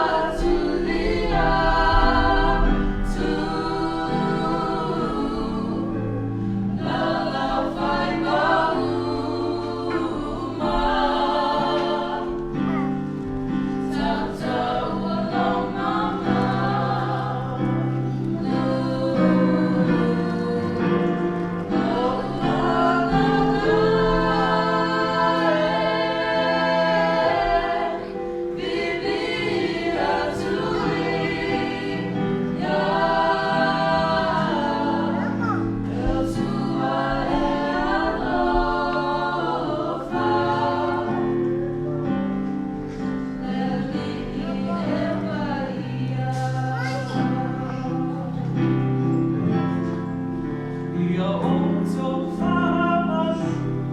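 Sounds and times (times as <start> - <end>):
children singing together: 0.0 - 53.7.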